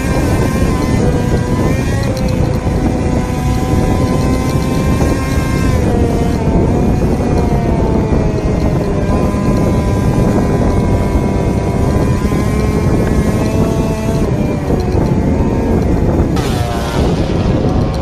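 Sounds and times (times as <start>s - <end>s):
scooter engine whine: 0.0s - 18.0s
wind rumble on microphone: 0.0s - 18.0s.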